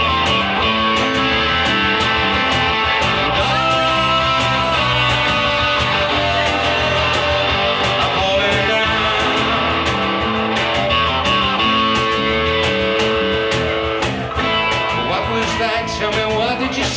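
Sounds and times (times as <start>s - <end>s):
live rock band playing: 0.0s - 16.9s.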